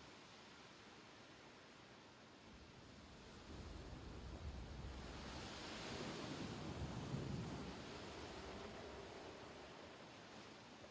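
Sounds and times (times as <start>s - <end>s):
wind rustling through grass: 0.0s - 10.9s.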